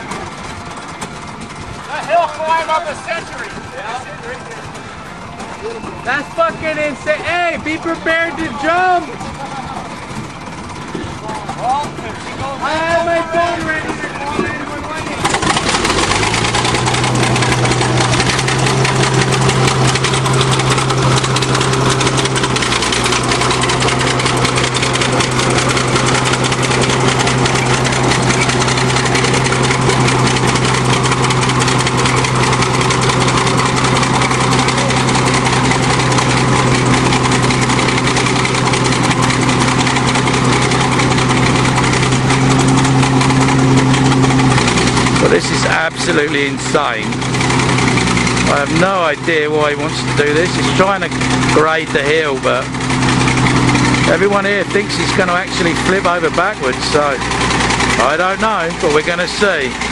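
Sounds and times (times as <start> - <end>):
bulldozer engine running: 0.0 - 59.9.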